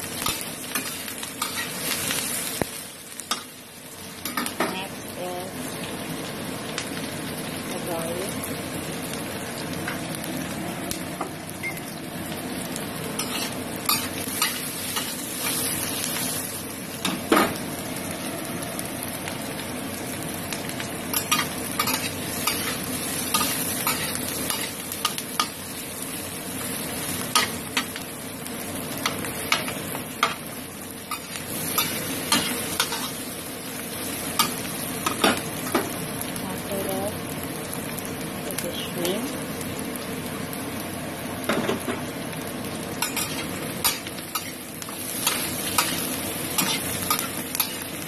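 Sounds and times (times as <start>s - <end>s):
onions sizzling in oil: 0.0s - 48.0s.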